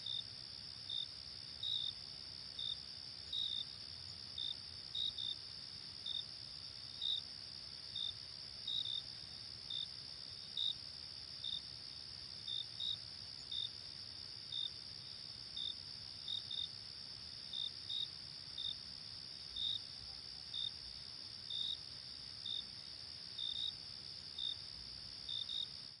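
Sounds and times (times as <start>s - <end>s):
insect chirps: 0.0s - 26.0s.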